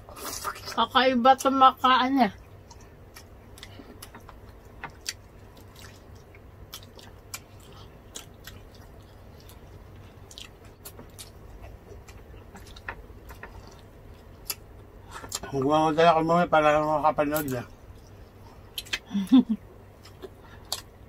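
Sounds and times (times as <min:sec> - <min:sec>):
people chewing with mouth sounds: 0:00.0 - 0:00.8, 0:02.4 - 0:15.6, 0:17.4 - 0:21.0
low steady hum: 0:00.0 - 0:21.0.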